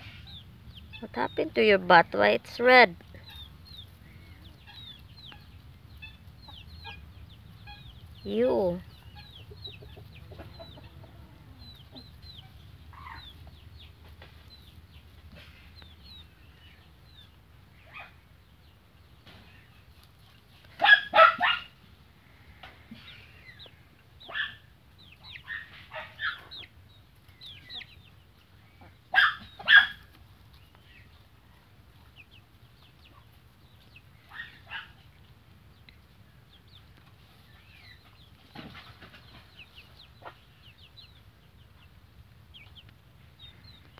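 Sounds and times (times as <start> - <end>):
chicks peeping: 0.0 - 43.9.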